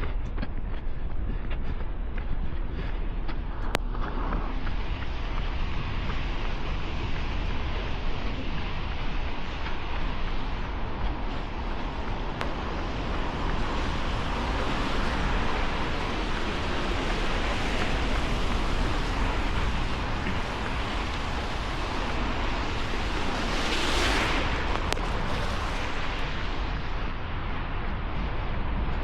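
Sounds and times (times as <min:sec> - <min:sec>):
wet city street noise: 0:00.1 - 0:29.0
rain hiss: 0:03.9 - 0:27.4.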